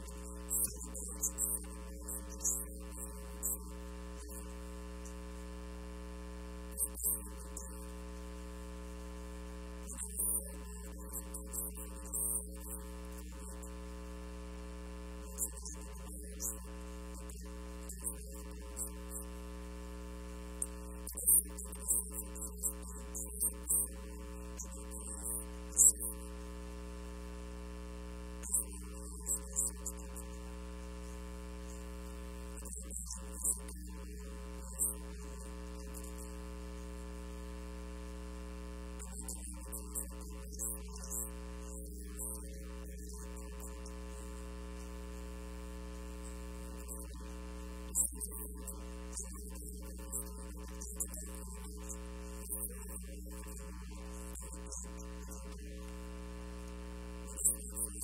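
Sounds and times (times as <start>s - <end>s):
noise crackles: 0.0s - 49.3s, 49.9s - 58.0s
electrical mains hum: 0.0s - 58.0s.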